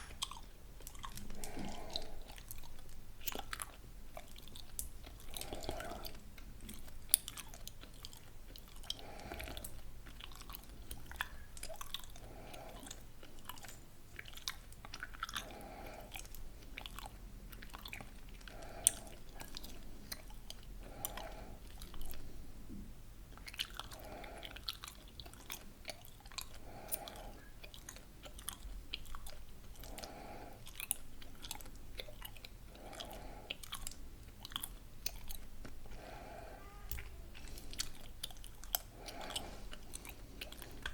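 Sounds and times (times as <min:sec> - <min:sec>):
gum chewing wet smacks: 0:00.0 - 0:40.9.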